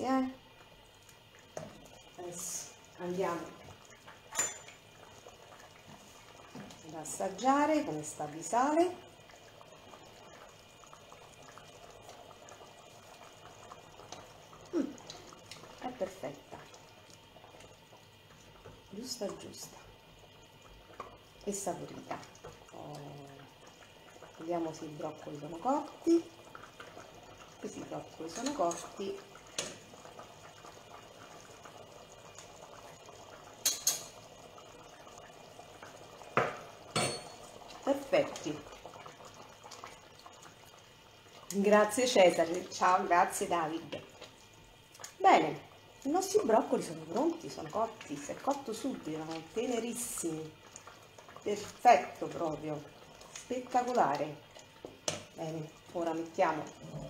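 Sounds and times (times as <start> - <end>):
soup simmering in a pot: 0.0 - 57.0.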